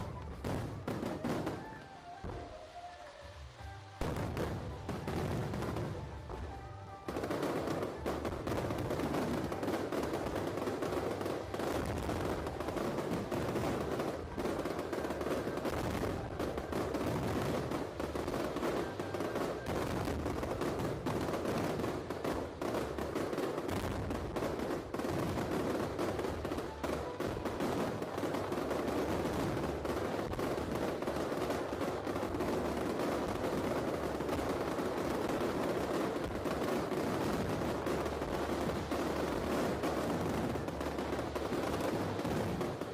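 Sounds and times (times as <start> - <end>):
fireworks crackling bangs: 0.0 - 42.9.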